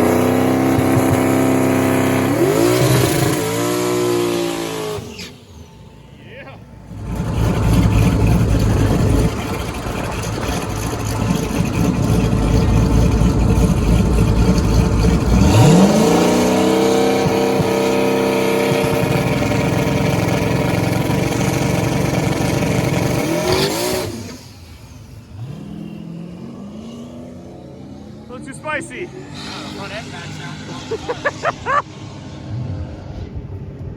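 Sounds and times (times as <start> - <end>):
race car engine at full throttle: 0.0 - 33.9.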